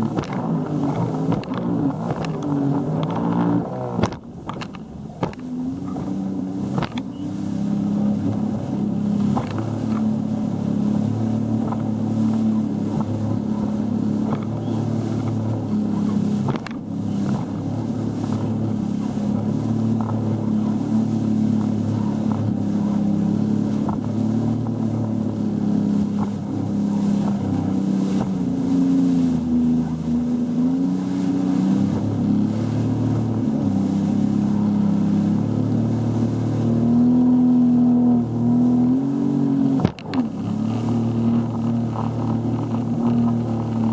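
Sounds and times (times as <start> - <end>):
boat motor droning: 0.0 - 43.9.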